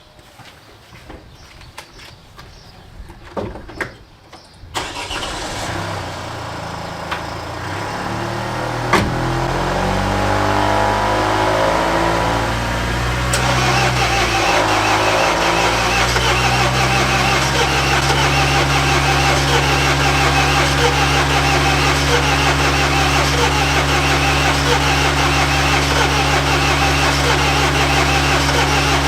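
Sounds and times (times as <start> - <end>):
diesel engine cranking and running: 4.8 - 29.0.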